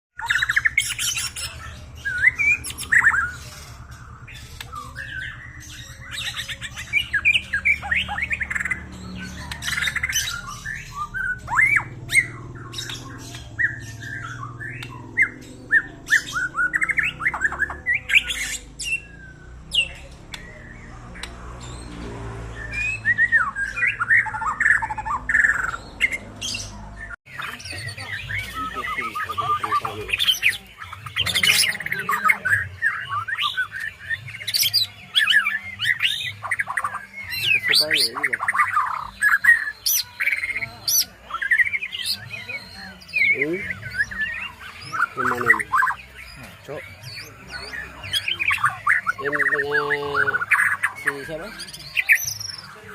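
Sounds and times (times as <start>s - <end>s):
bird song with whistles and squawks: 0.2s - 52.9s.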